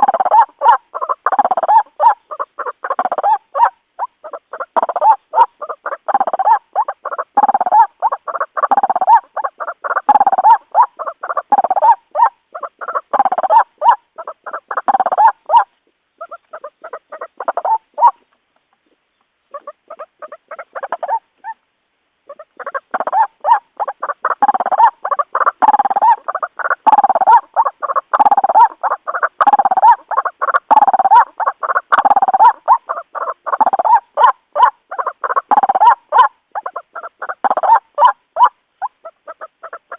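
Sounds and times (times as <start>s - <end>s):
waterhen calls: 0.0s - 39.9s.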